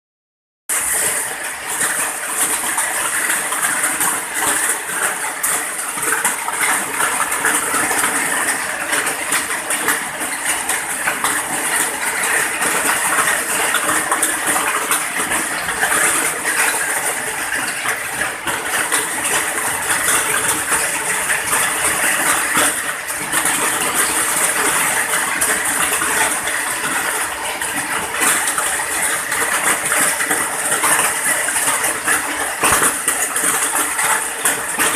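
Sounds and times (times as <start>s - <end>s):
rain falling steadily: 0.7s - 34.9s.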